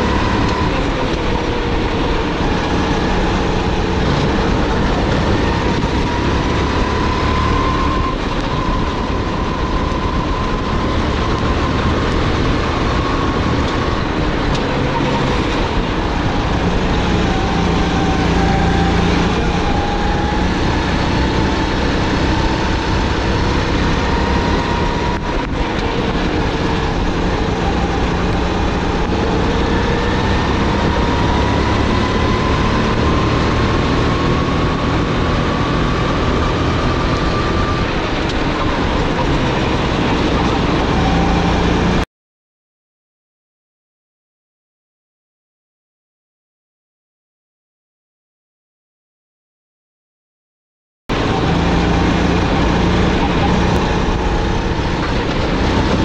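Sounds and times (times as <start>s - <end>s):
kart engine running hard: 0.0s - 42.0s, 51.1s - 56.0s.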